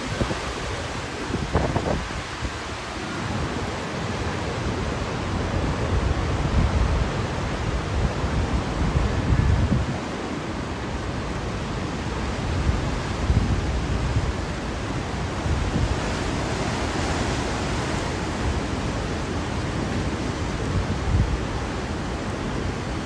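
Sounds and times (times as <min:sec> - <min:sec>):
strong wind rushing: 0:00.0 - 0:23.0
wind buffeting microphone: 0:00.0 - 0:23.0.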